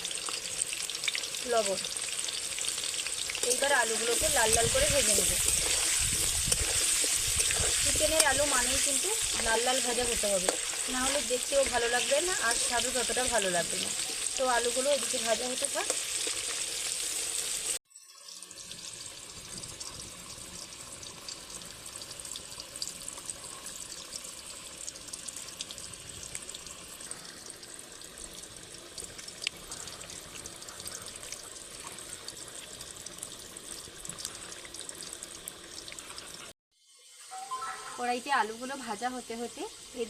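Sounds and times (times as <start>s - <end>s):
potatoes sizzling in hot oil: 0.0s - 37.4s, 38.0s - 40.0s.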